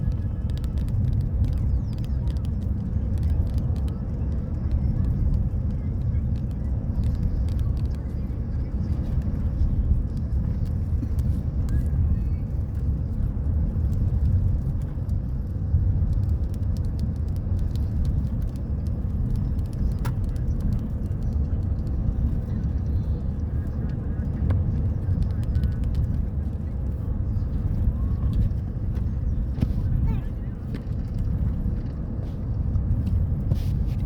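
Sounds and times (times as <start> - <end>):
car road rumble: 0.0 - 34.0.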